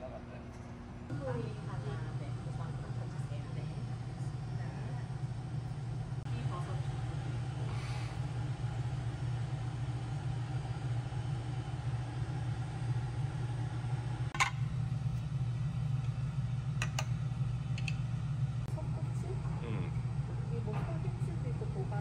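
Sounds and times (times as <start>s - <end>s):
exhaust hood fan humming: 0.0s - 22.0s.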